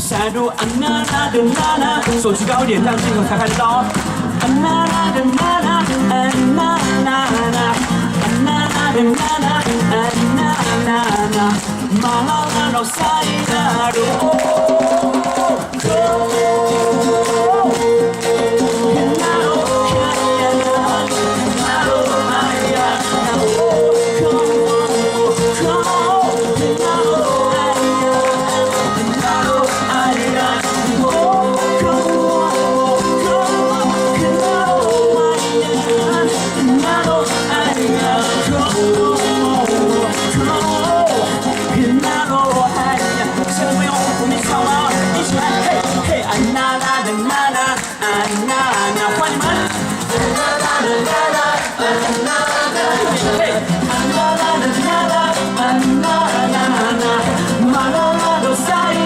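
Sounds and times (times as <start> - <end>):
band with guitar: 0.0 - 59.0.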